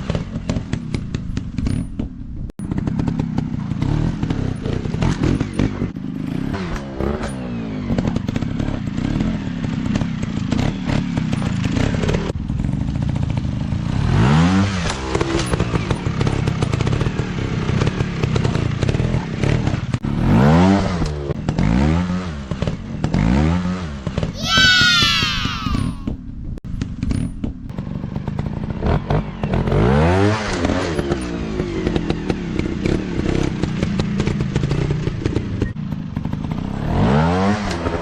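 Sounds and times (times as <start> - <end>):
motorcycle engines revving: 0.0 - 25.5, 26.8 - 38.0.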